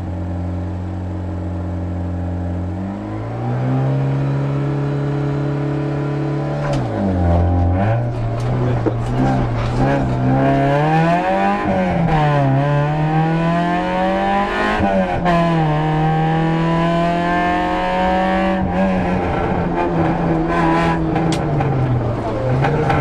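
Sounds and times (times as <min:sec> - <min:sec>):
rally car engine revving hard: 0:02.6 - 0:23.0.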